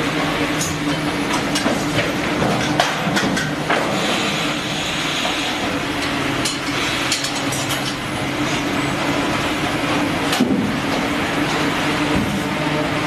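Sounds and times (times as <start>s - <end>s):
conveyor noise: 0.0s - 13.0s.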